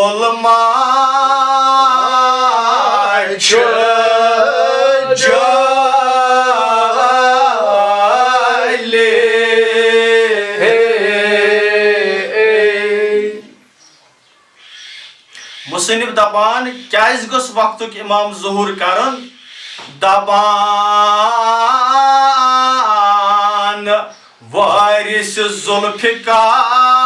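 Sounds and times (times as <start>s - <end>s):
man chanting: 0.0s - 13.6s, 15.7s - 27.0s.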